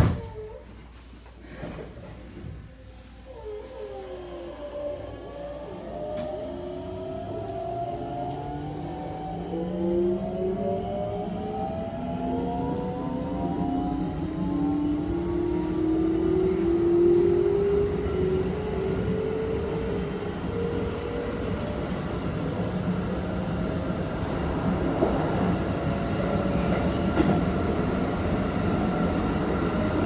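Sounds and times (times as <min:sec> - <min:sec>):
wheels rumbling on rail: 0:01.2 - 0:30.0.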